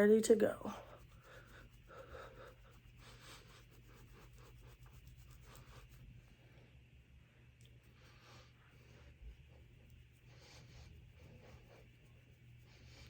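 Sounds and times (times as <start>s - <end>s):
makeup brush strokes: 0.0s - 7.0s, 7.6s - 13.0s.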